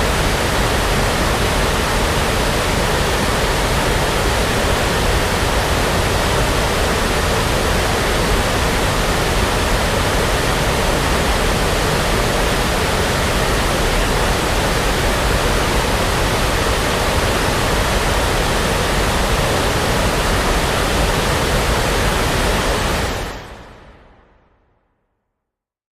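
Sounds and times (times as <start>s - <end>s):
brown noise hiss: 0.0s - 23.9s.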